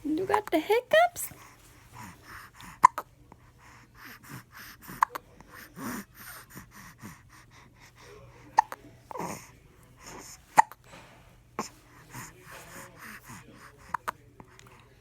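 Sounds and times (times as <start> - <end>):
breathing: 1.3 - 15.0.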